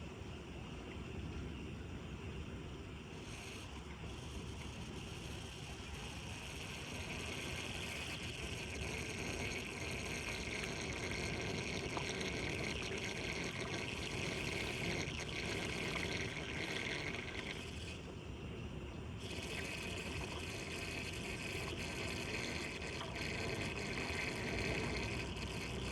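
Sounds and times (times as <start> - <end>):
water rushing down storm drain: 3.2 - 18.0, 19.2 - 25.9.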